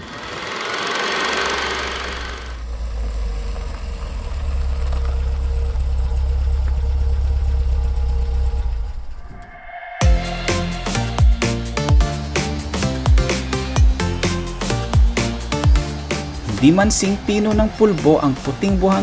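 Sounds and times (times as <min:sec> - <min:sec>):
vehicle engine rumbling: 0:00.0 - 0:11.8, 0:12.4 - 0:19.0.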